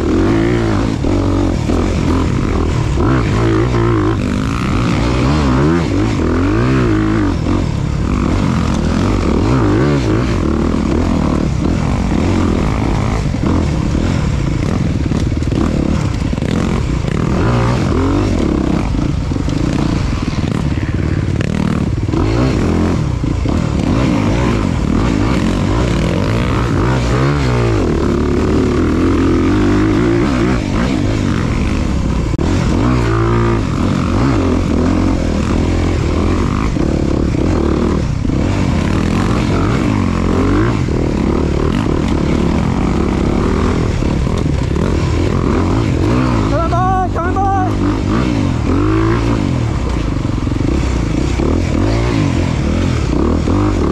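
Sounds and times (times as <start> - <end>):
motorcycle engine revving: 0.0 - 53.9
noisy rush and clatter: 0.0 - 53.9.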